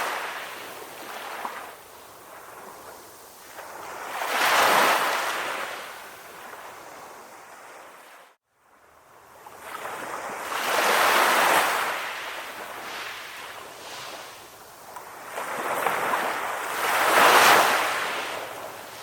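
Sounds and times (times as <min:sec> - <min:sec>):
sea waves surging in: 0:00.0 - 0:08.4, 0:09.1 - 0:19.0.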